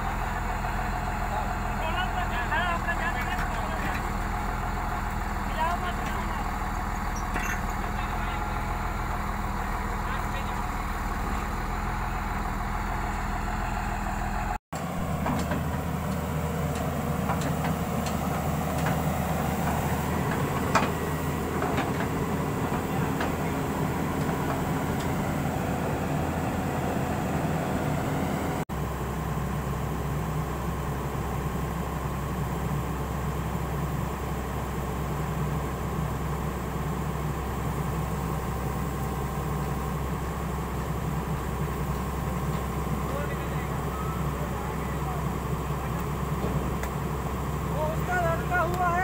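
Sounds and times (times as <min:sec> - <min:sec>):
heavy diesel engines running: 0:00.0 - 0:49.0.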